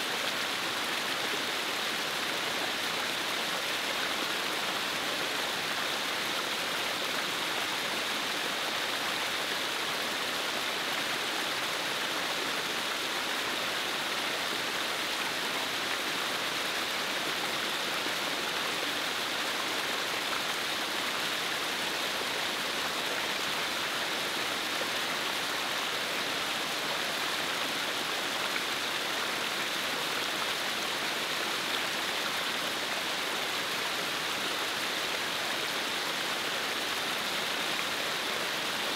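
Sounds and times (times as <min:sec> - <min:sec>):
stream flowing over rock: 0:00.0 - 0:38.9.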